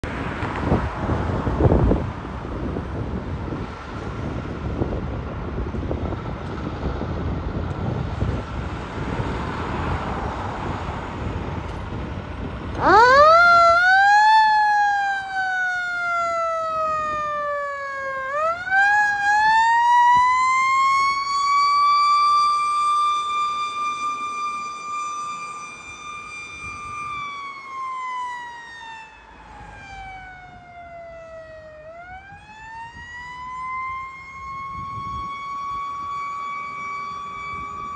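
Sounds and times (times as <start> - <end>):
diesel engine rumbling: 0.0 - 37.9
fire truck siren wailing: 0.0 - 37.9
wind on microphone: 0.1 - 22.5, 29.9 - 37.9.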